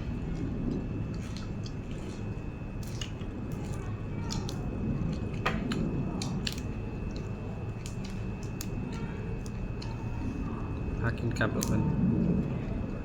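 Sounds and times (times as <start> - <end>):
person chewing: 0.0 - 10.9.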